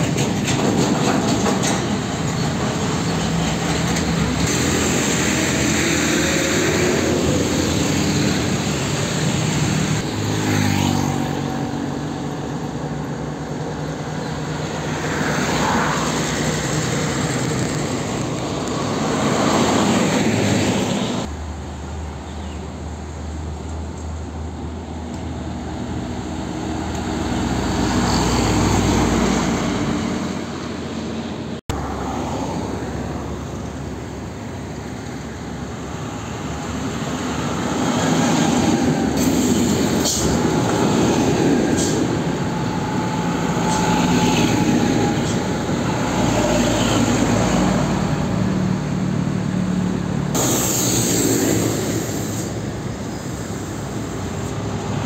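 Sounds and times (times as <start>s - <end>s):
diesel trucks driving past: 0.0s - 55.0s.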